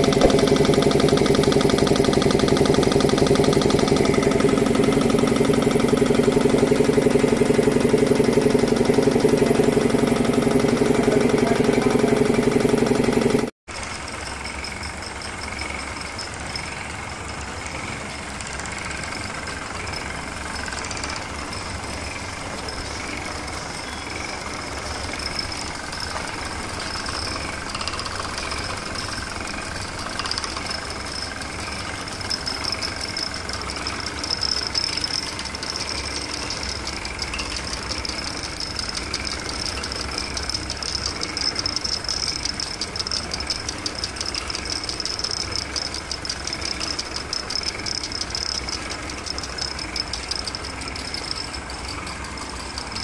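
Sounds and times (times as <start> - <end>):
fast ticking rattle: 0.0 - 53.0
workshop machinery running: 0.0 - 53.0.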